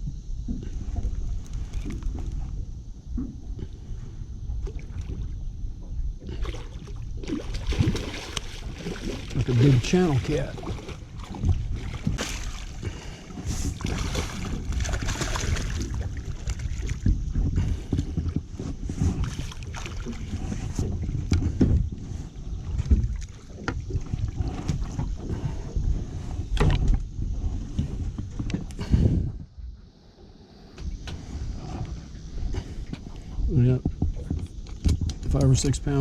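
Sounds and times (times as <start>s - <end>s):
knocks and clatter in boat: 0.0s - 36.0s
wind rumbling on microphone: 0.0s - 36.0s.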